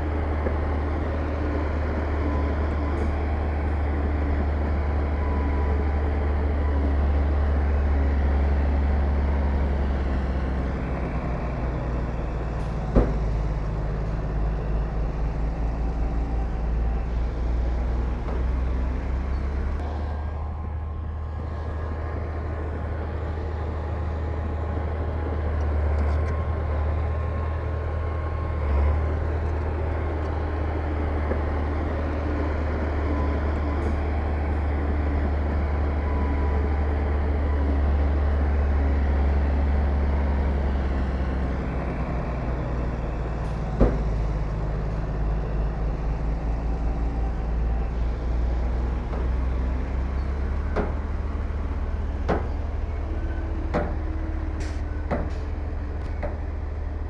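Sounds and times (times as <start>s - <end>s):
heavy diesel machinery engine: 0.0s - 57.0s.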